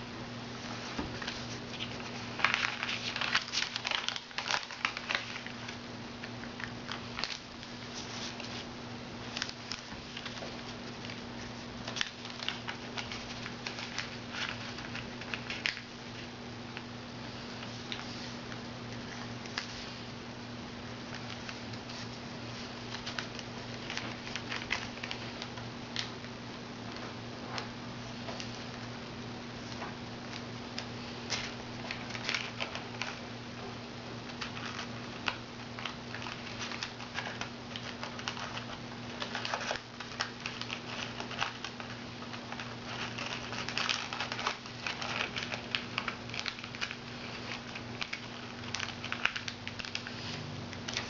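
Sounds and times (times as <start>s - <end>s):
low steady hum: 0.0s - 51.0s
paper folding and crackling: 0.6s - 20.1s, 20.8s - 51.0s.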